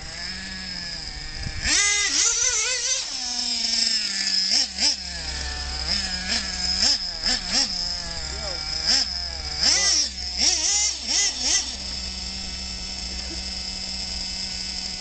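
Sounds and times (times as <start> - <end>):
radio-controlled car motor revving: 0.0 - 15.0.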